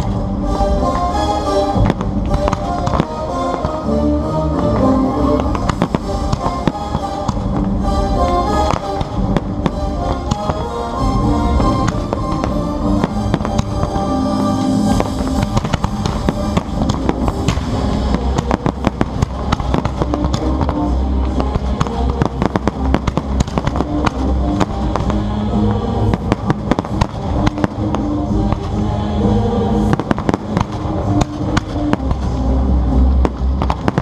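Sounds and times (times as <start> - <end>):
fireworks crackling and popping: 0.0 - 3.9, 4.5 - 28.9, 29.8 - 34.0
loud music: 0.0 - 34.0.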